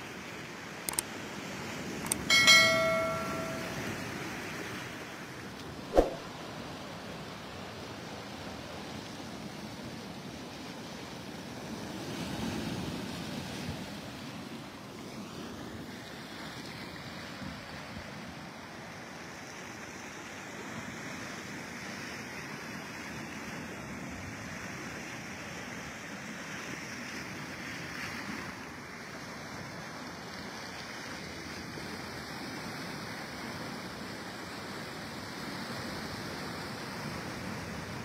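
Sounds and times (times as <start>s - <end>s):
surf on pebble beach: 0.0s - 38.0s.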